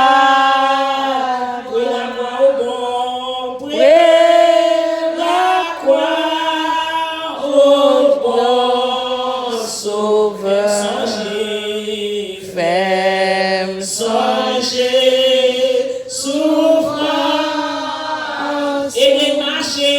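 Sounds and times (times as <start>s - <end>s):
voices singing a hymn: 0.0s - 19.9s.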